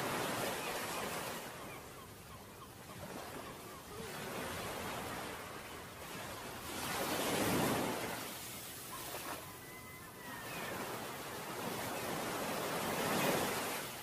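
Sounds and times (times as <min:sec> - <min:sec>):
gentle sea surf: 0:00.0 - 0:14.0
wind: 0:00.0 - 0:14.0.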